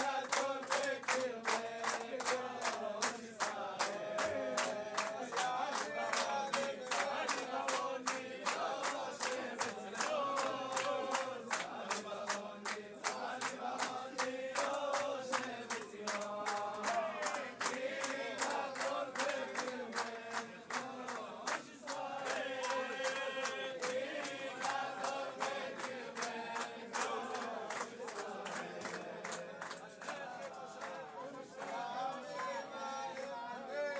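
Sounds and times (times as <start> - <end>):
men singing together: 0.0 - 33.9
rhythmic hand-clapping: 0.0 - 33.9.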